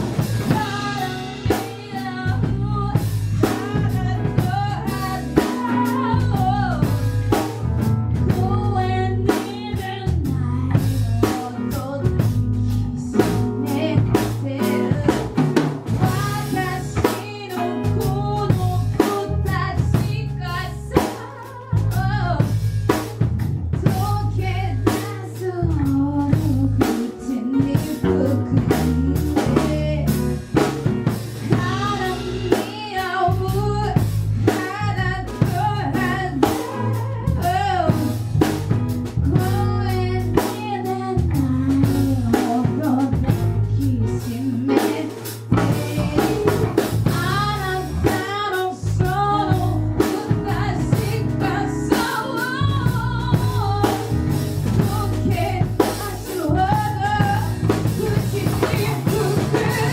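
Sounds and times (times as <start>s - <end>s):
person singing: 0.0s - 7.0s, 8.3s - 22.5s, 23.8s - 30.7s, 31.4s - 38.4s, 39.2s - 59.9s
band playing a song: 0.0s - 59.9s
steady drum beat: 0.0s - 59.9s.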